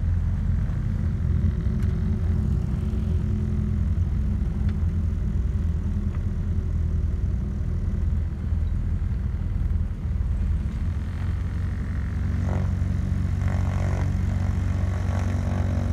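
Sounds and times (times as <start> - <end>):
propeller aircraft engine drone: 0.0 - 15.9.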